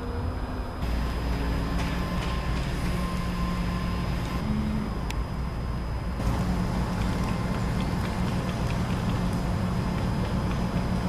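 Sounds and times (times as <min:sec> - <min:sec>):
low rumble of motor vehicles: 0:00.0 - 0:11.0.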